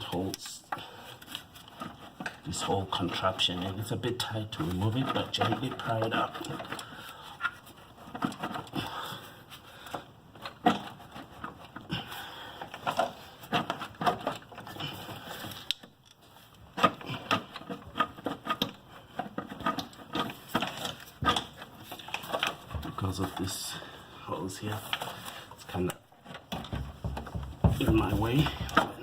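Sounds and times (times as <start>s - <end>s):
plastic parts and tools rattling: 0.0s - 29.0s.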